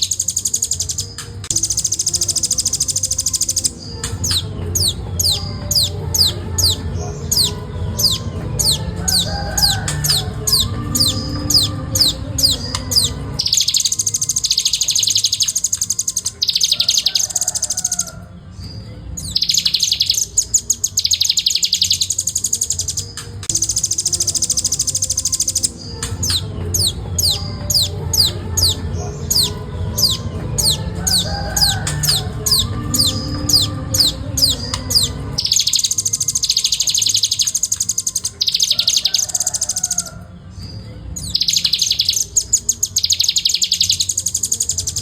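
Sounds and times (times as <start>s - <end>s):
bird calling in fast high trills: 0.0s - 18.2s, 19.3s - 40.2s, 41.3s - 45.0s.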